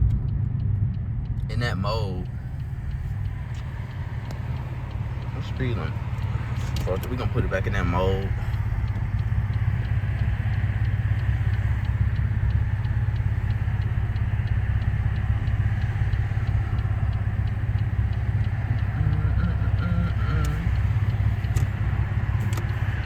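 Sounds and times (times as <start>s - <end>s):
car exhaust droning: 0.0s - 23.0s
road noise: 0.0s - 23.0s.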